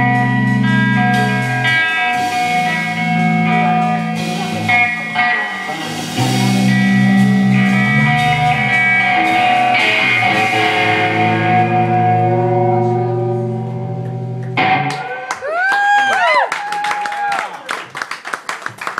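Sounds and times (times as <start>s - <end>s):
live rock band playing: 0.0s - 16.4s.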